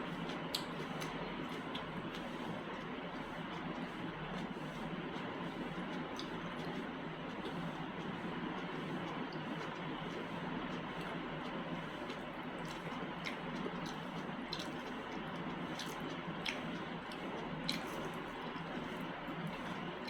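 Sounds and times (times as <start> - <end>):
wet squishy eating sounds: 0.1 - 20.0
sharp wet clicks and smacks: 0.2 - 20.0.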